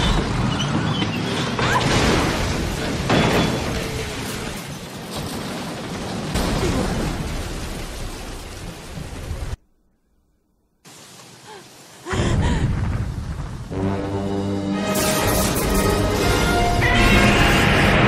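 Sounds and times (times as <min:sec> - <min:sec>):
heavy rain pouring: 0:00.0 - 0:09.6, 0:10.8 - 0:18.0.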